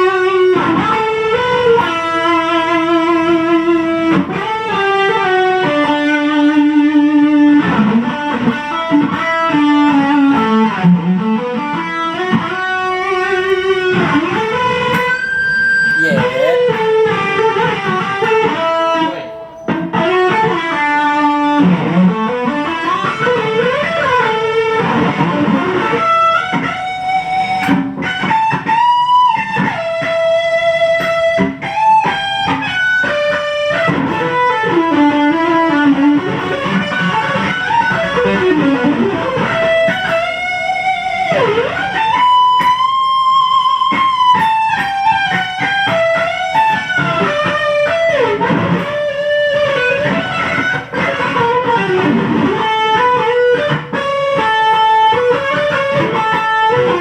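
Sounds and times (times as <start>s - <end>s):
electric guitar lead melody: 0.0s - 57.0s.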